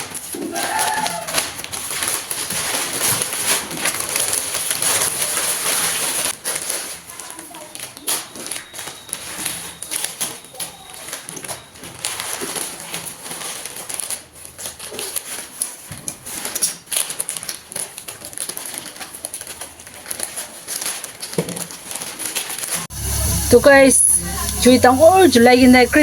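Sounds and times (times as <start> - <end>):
objects clicking and tapping: 0.0 - 22.9
packaging crinkling: 0.0 - 22.9.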